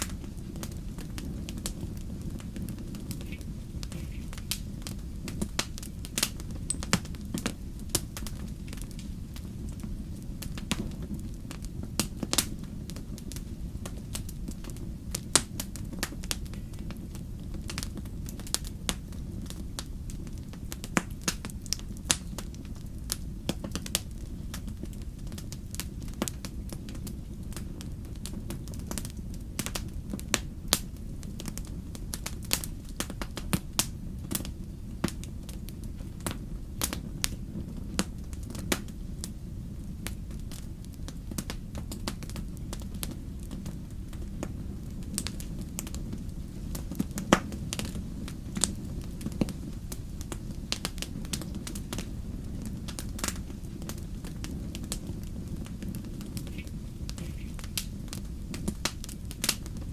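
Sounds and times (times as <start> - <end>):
campfire crackling: 0.0 - 59.9
low steady rumble: 0.0 - 59.9
sharp fire pops: 0.0 - 59.9.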